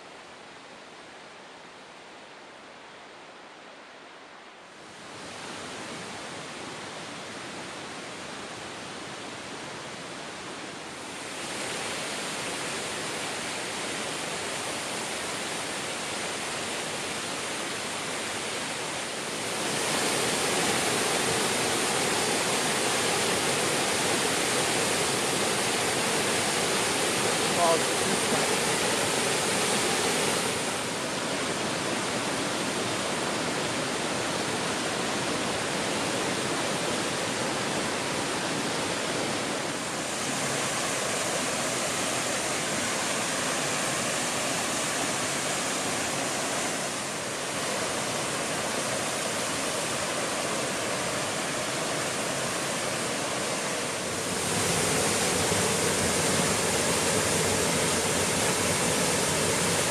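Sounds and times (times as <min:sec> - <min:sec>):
waterfall rushing: 0:04.8 - 0:59.9.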